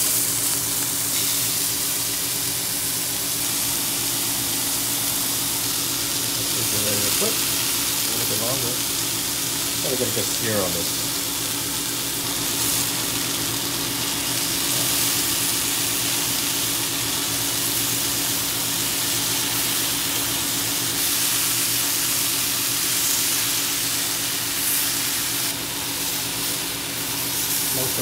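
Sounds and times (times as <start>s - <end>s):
scallops sizzling in a hot pan: 0.0s - 28.0s.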